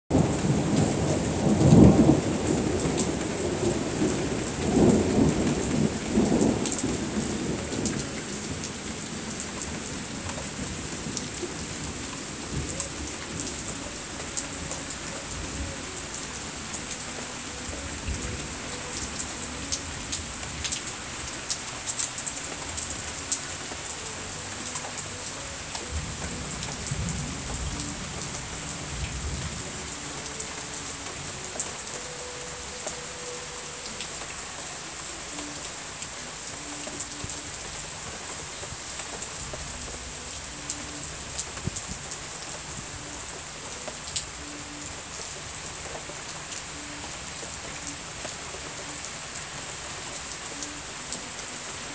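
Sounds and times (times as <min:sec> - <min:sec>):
heavy rain falling: 0:00.1 - 0:51.9
raindrops ticking close by: 0:00.1 - 0:51.9.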